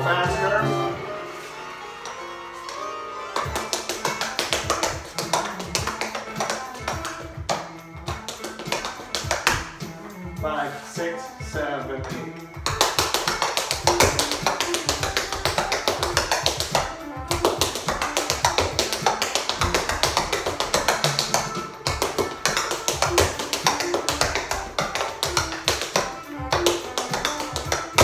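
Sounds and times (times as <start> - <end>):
backing music: 0.0 - 28.0
tap shoes on floor mat: 2.0 - 10.0, 12.0 - 28.0.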